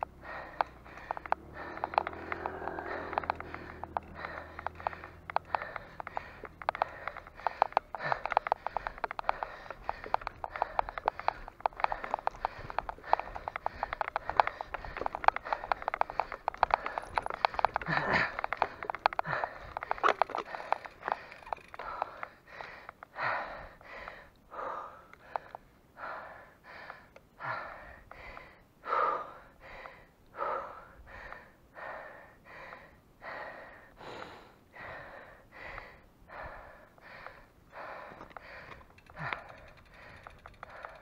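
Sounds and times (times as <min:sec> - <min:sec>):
cyclist panting: 0:00.0 - 0:41.0.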